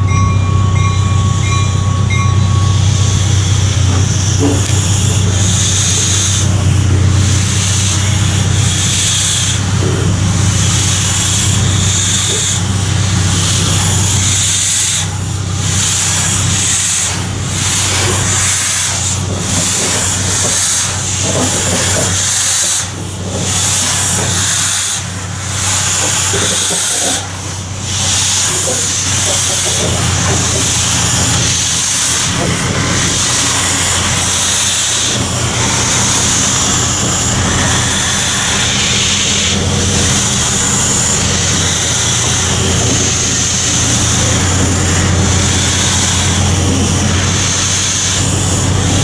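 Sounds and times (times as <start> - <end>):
steam hissing: 0.0 - 49.0.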